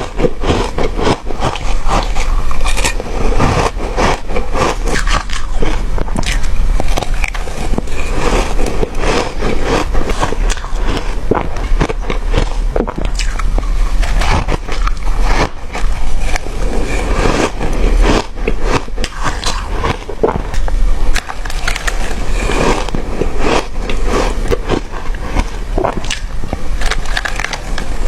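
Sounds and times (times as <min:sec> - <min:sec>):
ice being chewed: 0:00.0 - 0:28.0.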